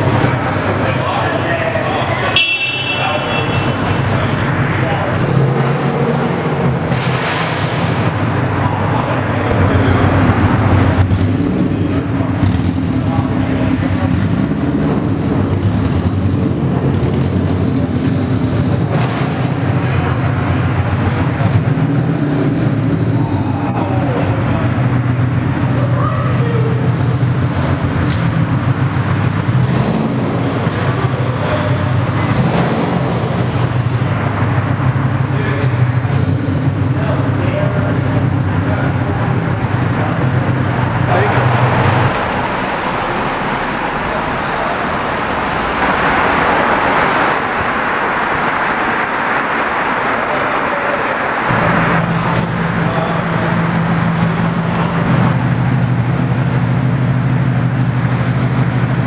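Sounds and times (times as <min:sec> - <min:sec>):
car engines rumbling: 0:00.0 - 0:59.0.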